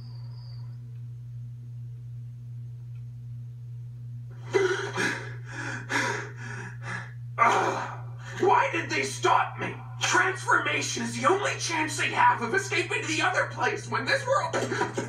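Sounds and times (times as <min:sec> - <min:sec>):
faint music tone: 0:00.0 - 0:15.0
steady low hum: 0:00.0 - 0:15.0.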